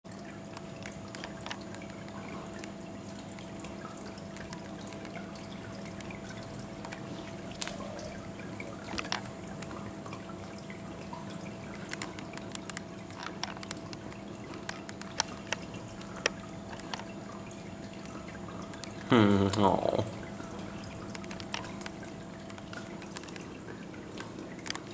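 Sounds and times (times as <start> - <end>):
low pump hum: 0.1 - 24.9
water trickling: 0.1 - 24.9.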